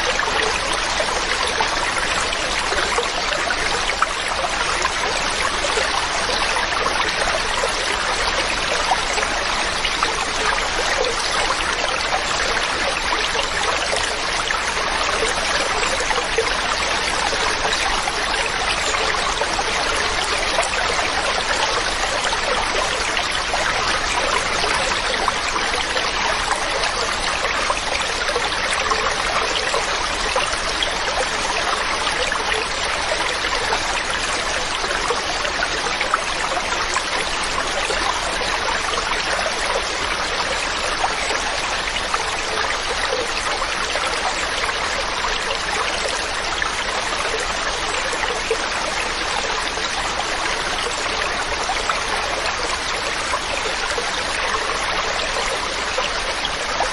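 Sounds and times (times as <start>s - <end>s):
stream rushing over rocks: 0.0s - 56.9s.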